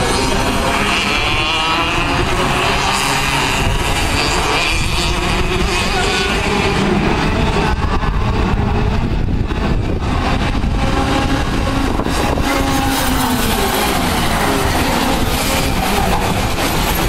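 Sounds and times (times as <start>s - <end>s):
kart engines racing past: 0.0s - 17.0s.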